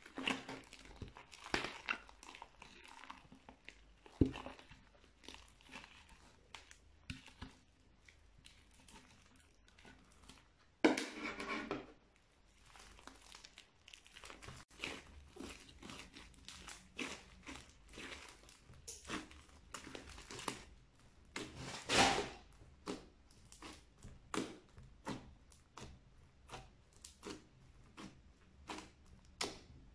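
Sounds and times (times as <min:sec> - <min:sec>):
crunchy slime crackling: 0:00.0 - 0:10.7, 0:12.4 - 0:29.9.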